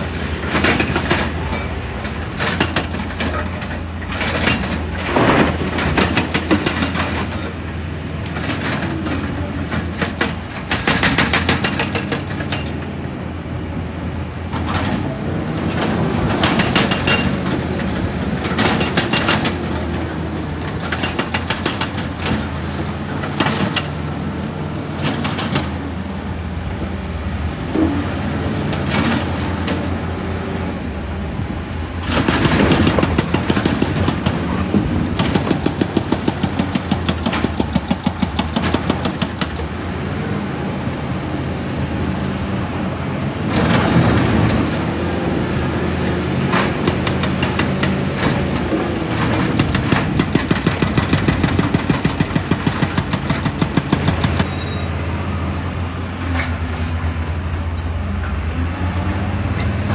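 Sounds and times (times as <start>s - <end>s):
clanks of rock and steel: 0.0s - 13.4s, 14.5s - 41.1s, 43.0s - 54.9s
excavator engine running: 0.0s - 59.9s.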